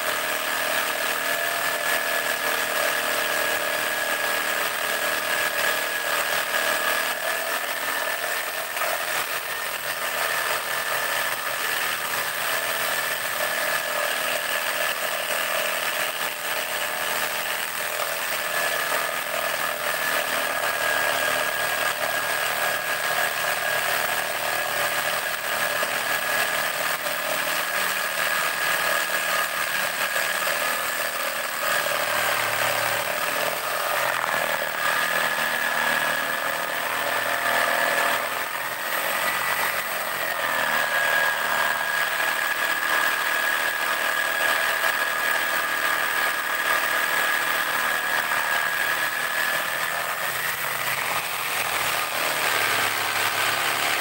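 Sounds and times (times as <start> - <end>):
jigsaw cutting wood: 0.0 - 54.0.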